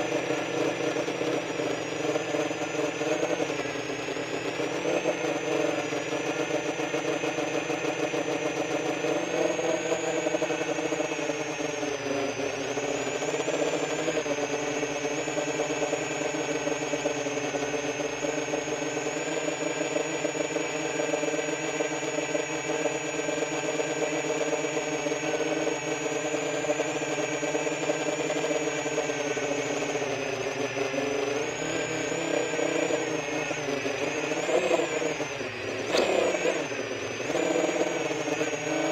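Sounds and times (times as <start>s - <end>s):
quadcopter propellers whirring: 0.0s - 38.9s.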